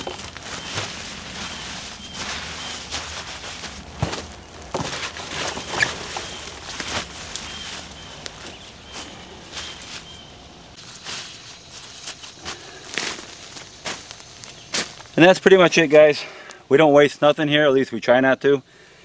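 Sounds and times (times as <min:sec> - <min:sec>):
corn husks rustling and crackling: 0:00.0 - 0:16.5
high insect whine: 0:00.0 - 0:19.0.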